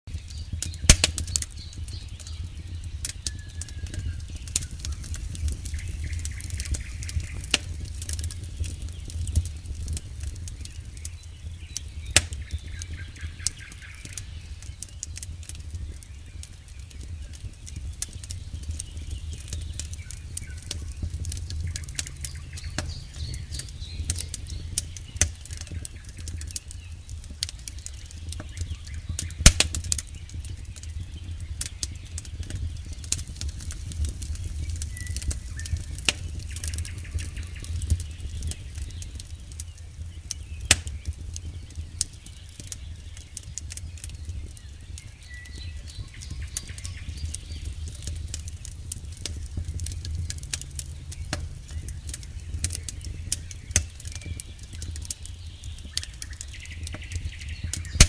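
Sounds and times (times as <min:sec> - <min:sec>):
campfire popping and snapping: 0:00.1 - 0:58.0
low rumble of burning wood: 0:00.1 - 0:58.0.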